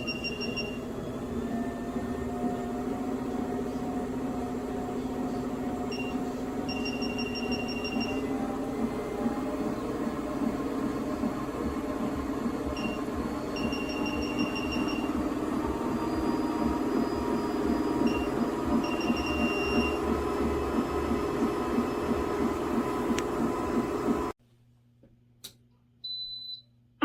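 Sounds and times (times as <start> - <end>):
treadmill belt rumble: 0.0 - 24.3
treadmill motor hum: 0.0 - 24.4.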